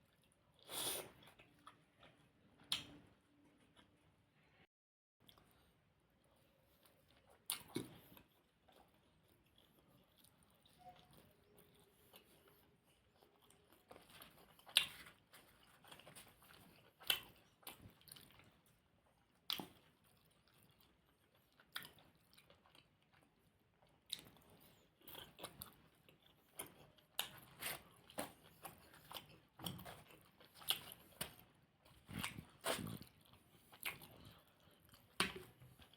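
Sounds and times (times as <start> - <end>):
chewing and wet mouth clicks: 6.8 - 35.9.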